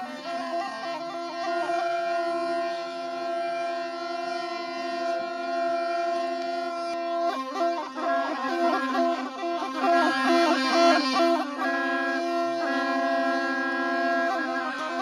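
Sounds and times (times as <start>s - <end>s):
wind instrument folk melody: 0.0s - 15.0s.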